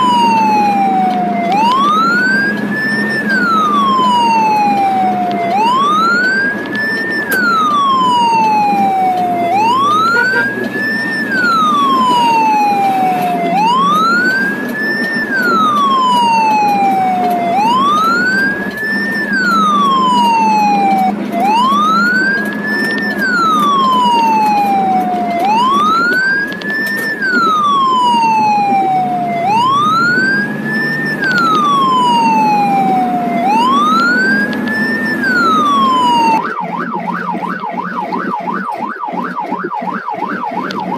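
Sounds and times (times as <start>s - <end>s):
ambulance siren wailing: 0.0s - 40.9s
engine and road rumble: 0.0s - 40.9s.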